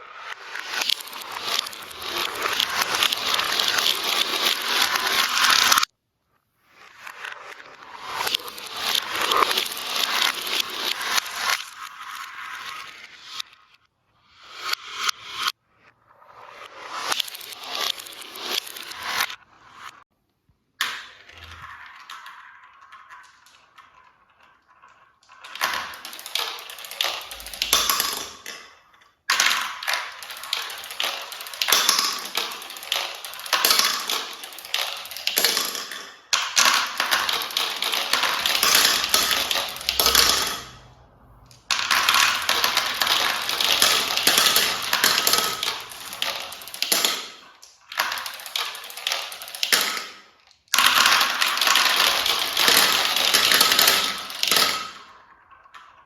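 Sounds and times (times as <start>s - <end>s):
marbles clattering on track: 0.0s - 5.9s, 6.8s - 13.5s, 16.6s - 20.0s, 20.8s - 56.0s.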